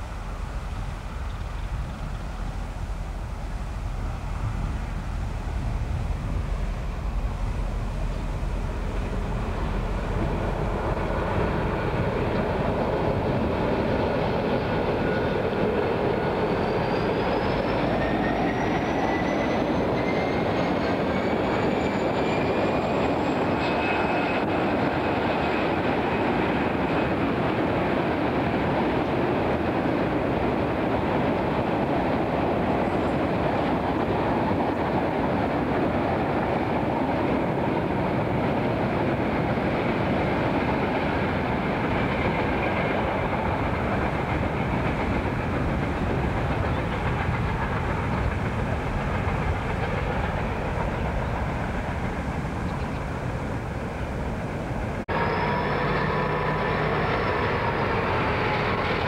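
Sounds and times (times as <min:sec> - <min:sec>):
locomotive engine rumble: 0:00.0 - 0:23.7, 0:26.3 - 0:59.0.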